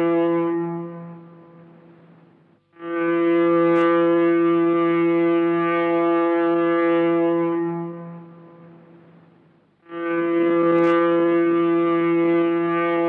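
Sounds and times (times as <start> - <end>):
foghorn blast: 0.0 - 2.1, 2.7 - 13.0.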